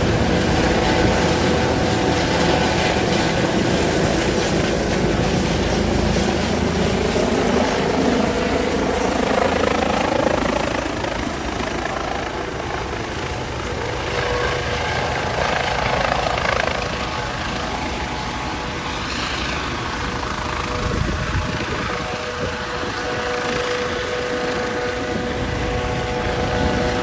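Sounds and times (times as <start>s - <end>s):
faint turbine whine: 0.0s - 27.0s
helicopter running: 0.0s - 27.0s.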